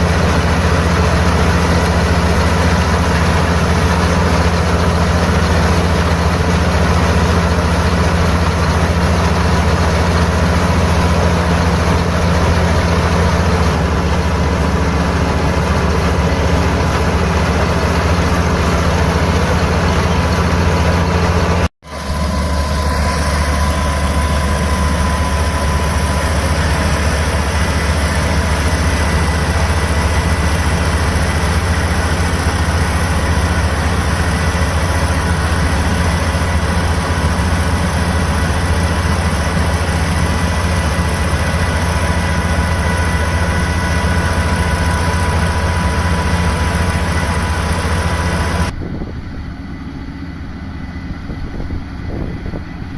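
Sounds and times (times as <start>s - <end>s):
combine harvester engine humming: 0.0s - 52.9s.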